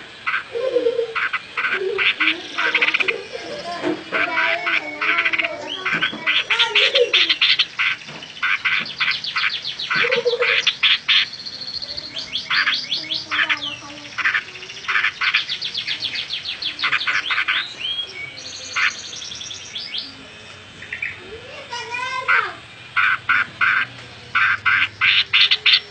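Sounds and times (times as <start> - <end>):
songbird chirping: 0.0 - 25.9.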